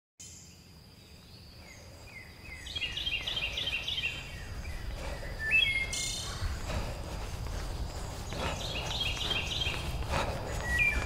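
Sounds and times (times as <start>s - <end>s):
bird chirping: 0.2s - 11.0s.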